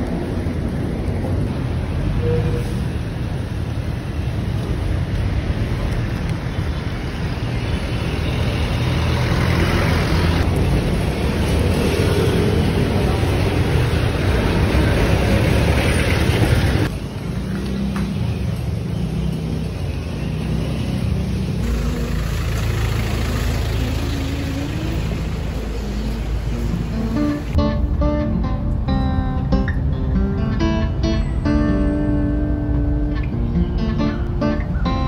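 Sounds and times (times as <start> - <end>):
city street traffic: 0.0 - 35.0.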